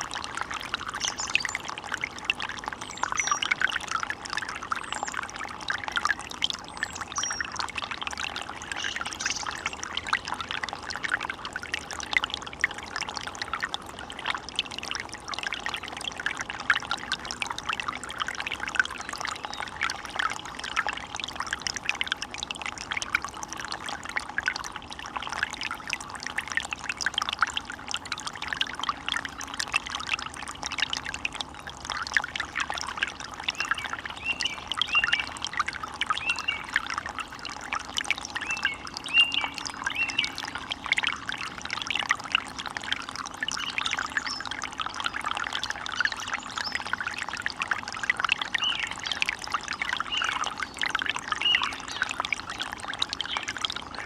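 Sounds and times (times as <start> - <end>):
stream burbling over stones: 0.0 - 54.0.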